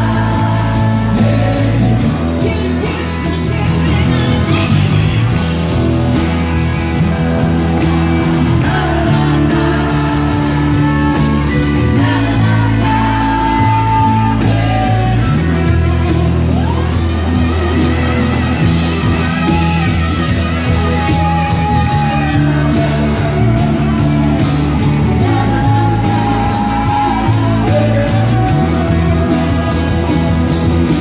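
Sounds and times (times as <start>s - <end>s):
people singing together: 0.0s - 4.1s, 6.8s - 31.0s
drums: 0.0s - 31.0s
electric guitars: 0.0s - 31.0s
lap steel guitar: 0.0s - 31.0s.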